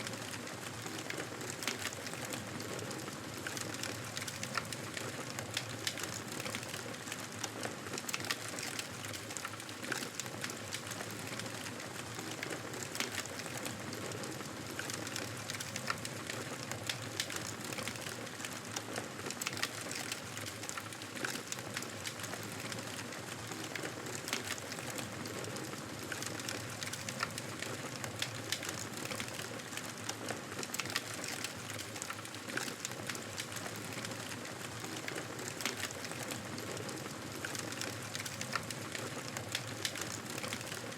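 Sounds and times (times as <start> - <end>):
logs crackling and popping: 0.0 - 40.9.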